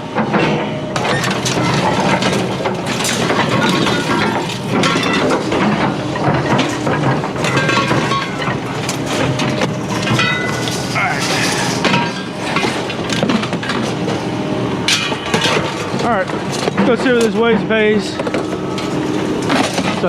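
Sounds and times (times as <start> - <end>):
scrap metal clattering: 1.0 - 20.0.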